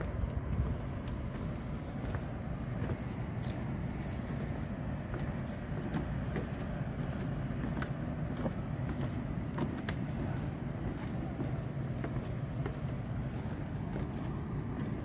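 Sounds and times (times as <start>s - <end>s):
city traffic hum: 0.0s - 15.0s.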